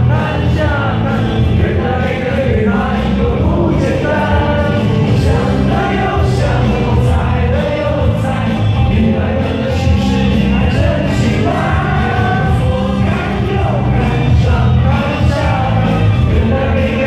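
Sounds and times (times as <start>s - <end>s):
live pop band over sound system: 0.0s - 17.0s
voices singing: 0.0s - 17.0s.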